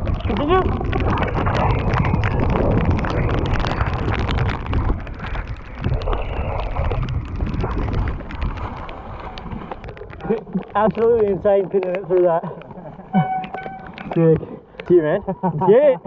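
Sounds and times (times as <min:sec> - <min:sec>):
wind buffeting microphone: 0:00.0 - 0:14.4
clicks and knocks on bike: 0:00.0 - 0:15.3.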